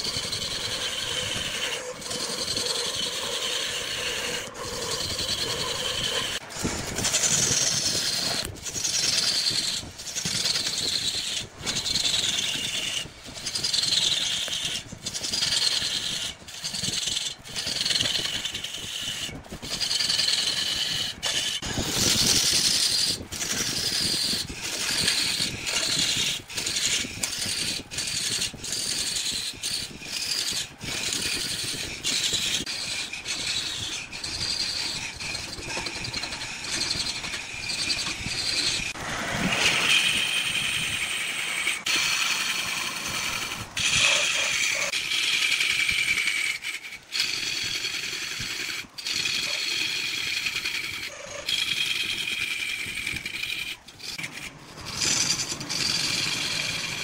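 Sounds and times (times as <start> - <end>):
lathe tool scraping wood: 0.0 - 57.0.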